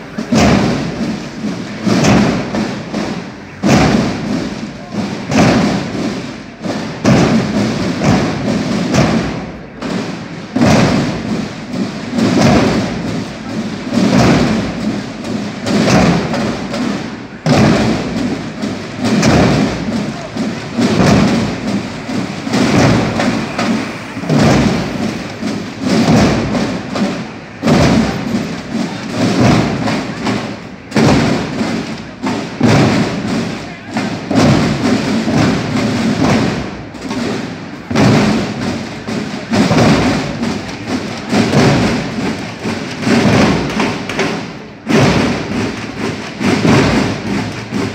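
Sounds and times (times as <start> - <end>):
marching drums playing cadence: 0.0 - 47.9.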